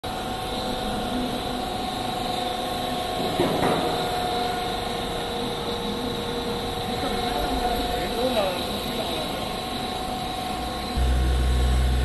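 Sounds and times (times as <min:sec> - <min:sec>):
held machine whine: 0:00.0 - 0:12.0
machine motor hum: 0:00.1 - 0:12.0.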